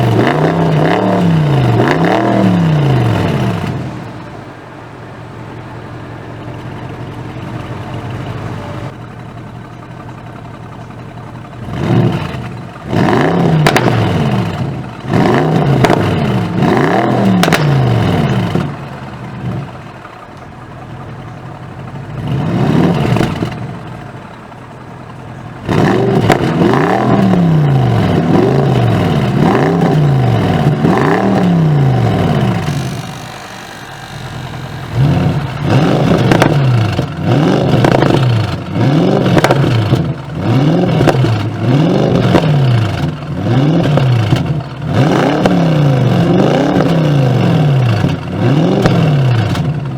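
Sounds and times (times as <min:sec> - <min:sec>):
car engine revving: 0:00.0 - 0:49.9
exhaust crackles: 0:00.0 - 0:49.9.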